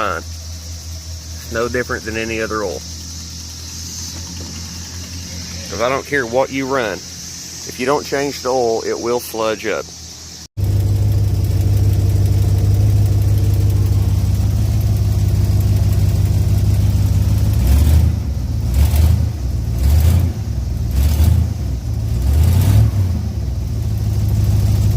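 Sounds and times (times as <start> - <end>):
car engine idling and revving: 0.0 - 9.1, 9.8 - 24.9.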